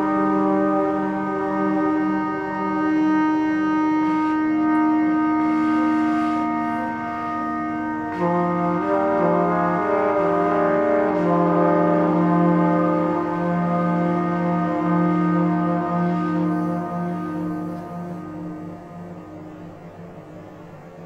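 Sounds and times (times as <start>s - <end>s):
ambient music with held notes: 0.0s - 21.0s
low pulsing note: 0.0s - 21.0s
steady drone: 0.0s - 21.0s.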